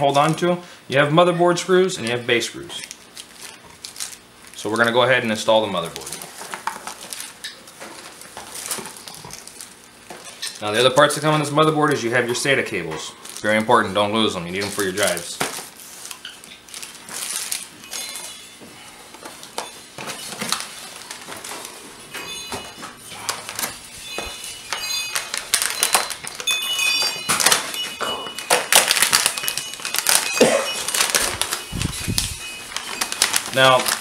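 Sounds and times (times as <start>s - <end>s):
cardboard and plastic rustling: 2.7s - 34.0s.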